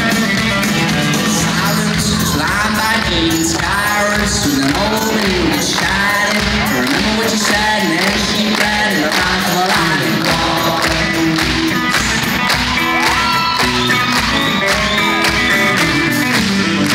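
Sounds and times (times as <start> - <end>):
crowd voices and shouts: 0.0 - 16.9
live rock band playing: 0.0 - 16.9.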